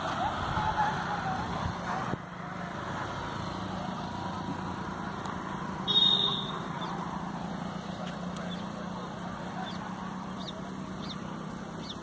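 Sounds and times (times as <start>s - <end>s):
distant motor drone: 0.0s - 12.0s
outdoor ambience: 0.0s - 12.0s.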